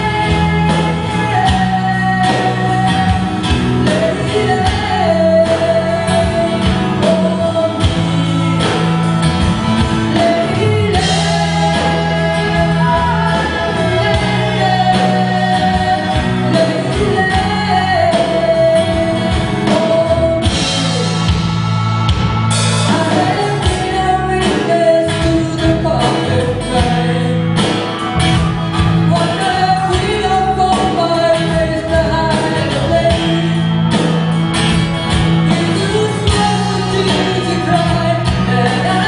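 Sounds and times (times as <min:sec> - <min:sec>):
woman singing: 0:00.0 - 0:09.0, 0:09.8 - 0:21.4, 0:22.8 - 0:27.8, 0:29.0 - 0:34.1, 0:35.5 - 0:39.0
live rock band playing: 0:00.0 - 0:39.0.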